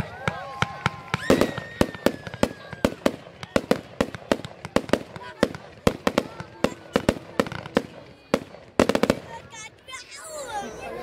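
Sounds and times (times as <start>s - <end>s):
fireworks bangs and cracks: 0.0s - 10.1s.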